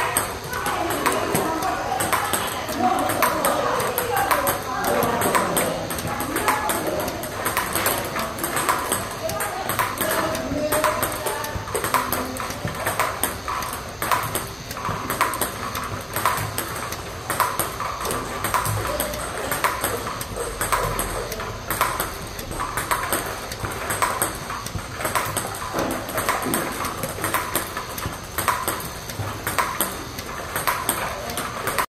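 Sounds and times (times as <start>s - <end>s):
table tennis ball pinging: 0.0s - 31.9s.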